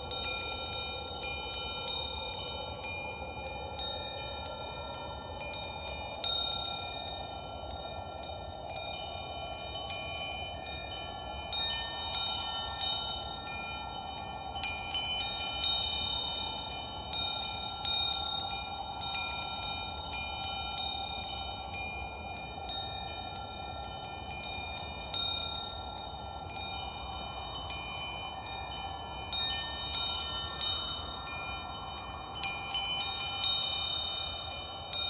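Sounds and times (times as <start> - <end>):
wind chimes ringing: 0.0 - 35.0.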